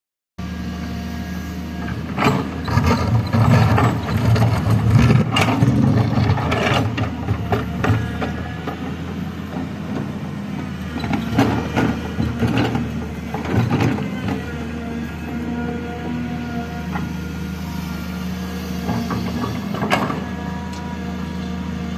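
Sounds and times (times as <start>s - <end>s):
heavy diesel engine running: 0.4s - 21.9s
excavator clanks and knocks: 1.8s - 17.3s, 18.8s - 21.6s.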